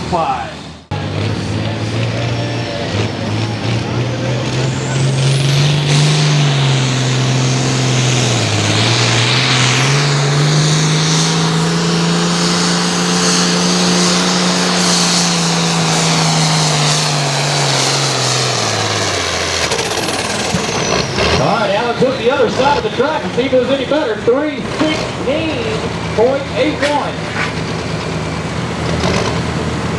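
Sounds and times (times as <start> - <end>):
tractor diesel engine at full throttle: 0.0 - 29.9.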